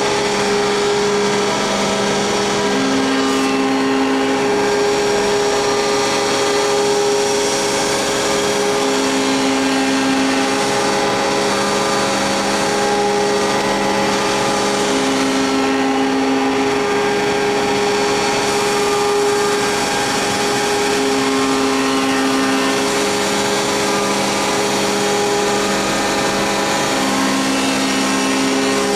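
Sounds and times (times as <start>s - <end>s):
extra machine tone: 0.0s - 28.9s
grinding machine hum: 0.0s - 28.9s.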